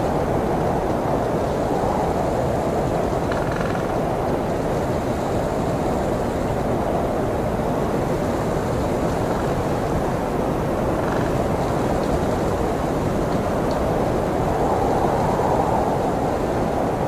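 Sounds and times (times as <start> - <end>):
blizzard wind rushing: 0.0 - 17.0
faint wind whistles: 0.0 - 17.0.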